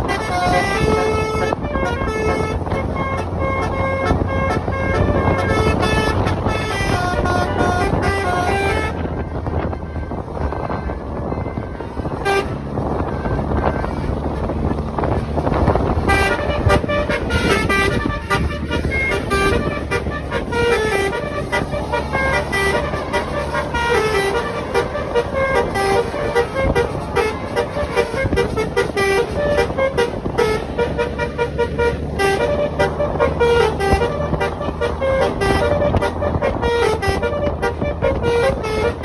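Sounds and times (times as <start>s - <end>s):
musical bus horn playing short tones: 0.0s - 14.5s, 16.0s - 39.0s
engines and tyres noise: 0.0s - 39.0s.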